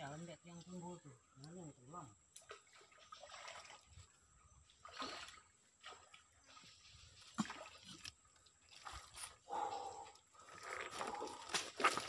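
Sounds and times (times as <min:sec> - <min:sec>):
water sloshing from wading: 0:02.3 - 0:12.0.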